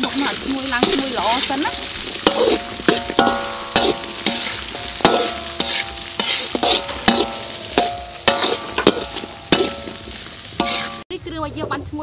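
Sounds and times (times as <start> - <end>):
metal ladle scraping wok: 0.0 - 11.0
frying sizzle: 0.0 - 11.1.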